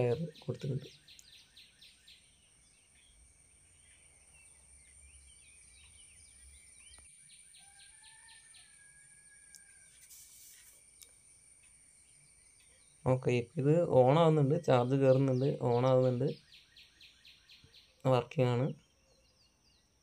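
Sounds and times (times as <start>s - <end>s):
distant bird chirps and whistles: 0.0s - 13.1s, 15.1s - 18.1s.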